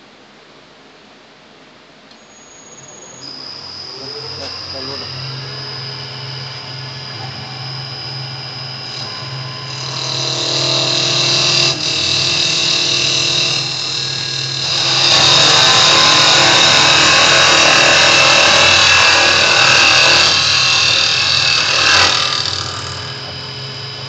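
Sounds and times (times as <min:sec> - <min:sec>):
lathe motor hum and whine: 0:02.3 - 0:24.0
tools cutting spinning wood: 0:03.3 - 0:24.0.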